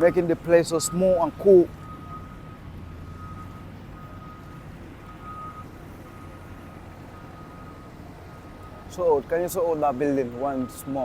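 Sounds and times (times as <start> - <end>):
distant diesel engine rumbling: 0.0 - 11.0
reversing alarm beeping: 0.0 - 11.0.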